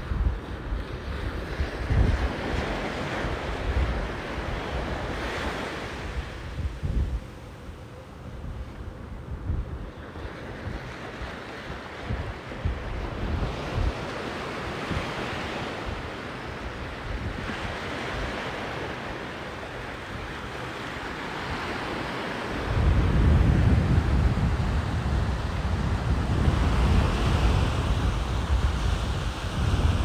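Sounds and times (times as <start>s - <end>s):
sea surf washing on beach: 0.0s - 30.0s
wind buffeting microphone: 0.0s - 30.0s.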